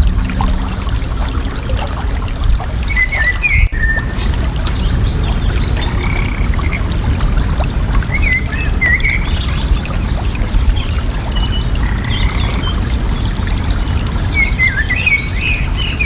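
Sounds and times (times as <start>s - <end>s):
water running and splashing: 0.0s - 16.0s
birds chirping: 2.1s - 16.0s.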